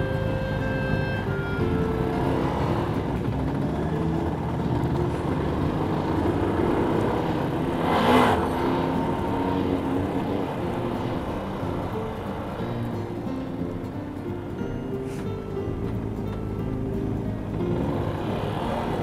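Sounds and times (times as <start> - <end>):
motorcycle engine: 0.0 - 19.0
wind and road noise: 0.0 - 19.0.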